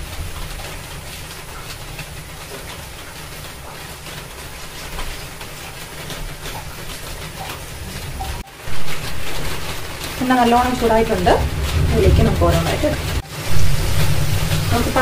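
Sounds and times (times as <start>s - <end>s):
oil hissing in hot pan: 0.0s - 15.0s.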